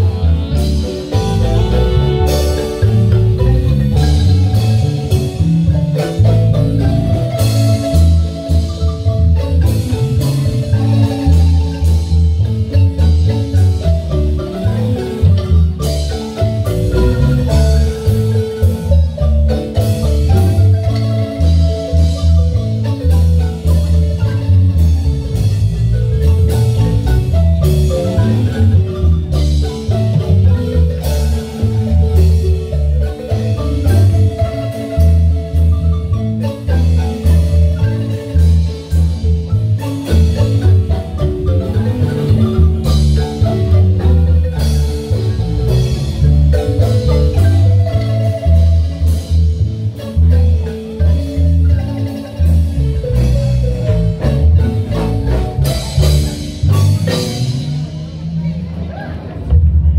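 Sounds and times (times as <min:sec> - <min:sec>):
bass line: 0:00.0 - 0:59.9
marimba band playing dance music: 0:00.0 - 0:59.9
percussion hits: 0:00.0 - 0:59.9.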